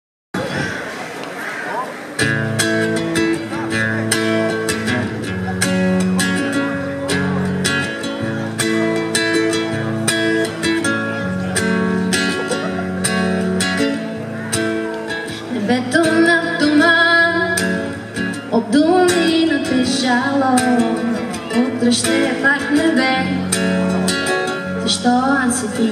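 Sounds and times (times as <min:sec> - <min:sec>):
acoustic guitar strumming: 0:02.0 - 0:25.9.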